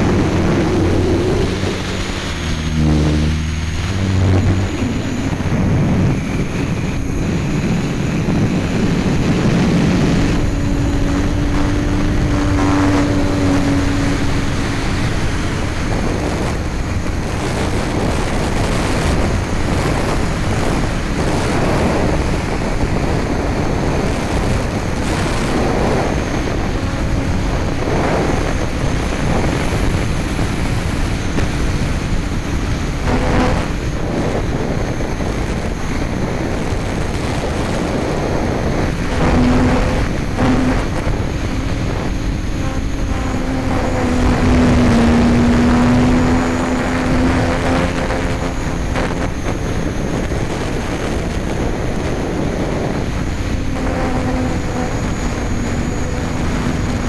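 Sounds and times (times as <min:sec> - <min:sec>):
drone propellers whirring: 0:00.0 - 0:57.0
steady rushing noise: 0:00.0 - 0:57.0.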